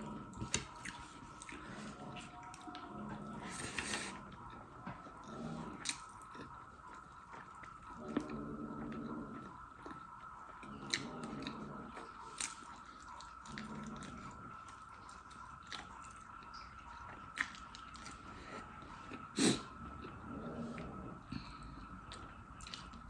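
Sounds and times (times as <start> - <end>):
wet chewing and mouth smacks: 0.3 - 20.2, 20.8 - 23.0.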